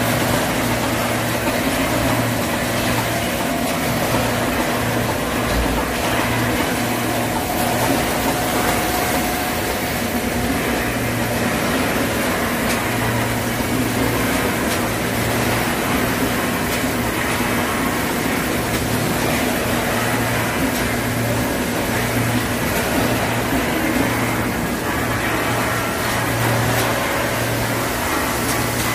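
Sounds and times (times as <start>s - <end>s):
machinery humming: 0.0s - 28.9s.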